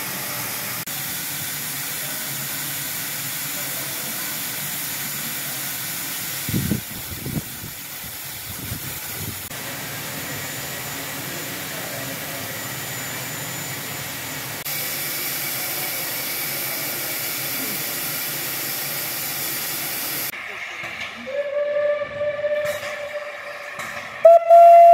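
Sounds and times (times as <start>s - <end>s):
steam locomotive hissing: 0.0s - 24.9s.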